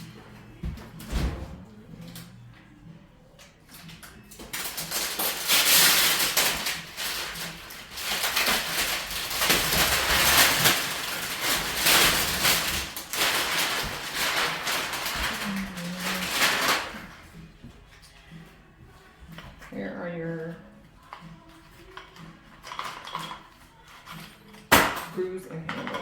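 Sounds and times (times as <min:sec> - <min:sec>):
rustling and clattering of objects: 0:00.0 - 0:26.0.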